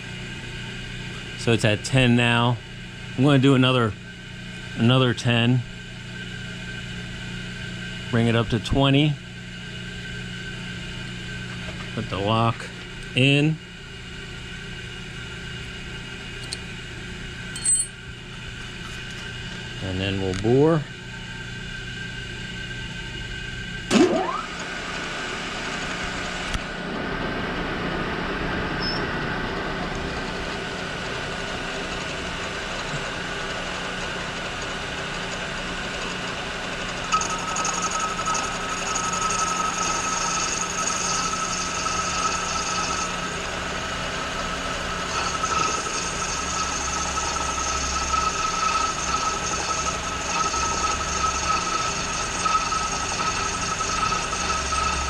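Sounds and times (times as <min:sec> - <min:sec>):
machine spindle hum: 0:09.2 - 0:55.0
steady high whine: 0:10.6 - 0:55.0.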